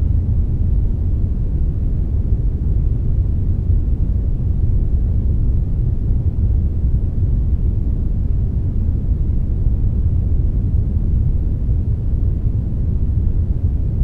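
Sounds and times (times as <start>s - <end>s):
steady deep brownish noise: 0.0s - 14.0s.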